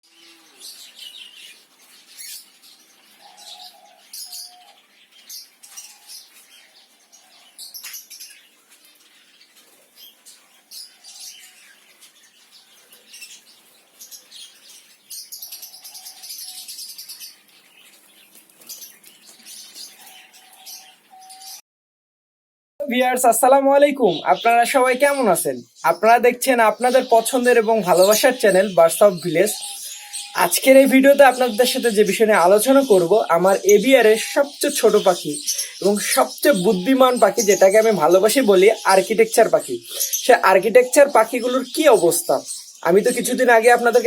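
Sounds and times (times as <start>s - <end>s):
finches chirping: 0.1s - 21.6s, 22.8s - 44.0s.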